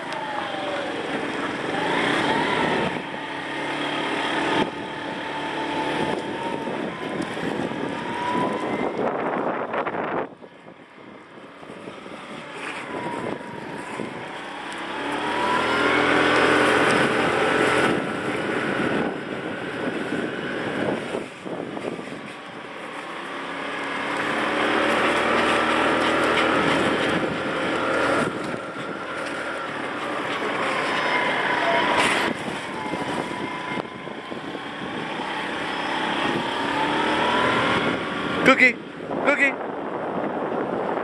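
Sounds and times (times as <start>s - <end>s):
motorbike engine accelerating: 0.0s - 41.0s.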